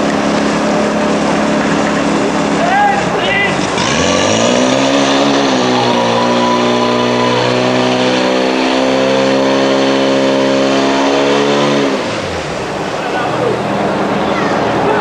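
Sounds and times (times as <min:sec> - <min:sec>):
pump engine revving: 0:00.0 - 0:15.0.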